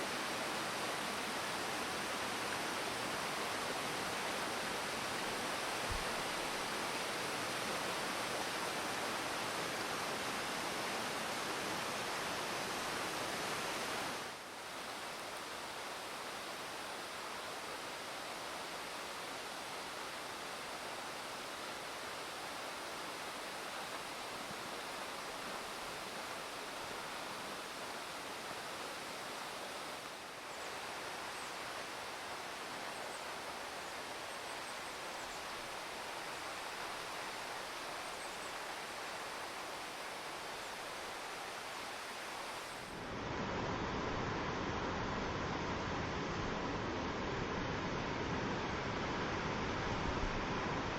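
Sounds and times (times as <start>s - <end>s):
waterfall rushing: 0.0s - 43.2s.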